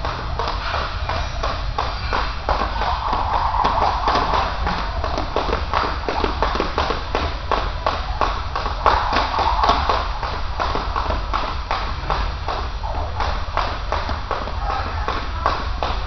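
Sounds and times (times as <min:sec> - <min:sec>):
feet landing: 0:00.0 - 0:16.0
jump rope slapping tiled floor: 0:00.0 - 0:16.0.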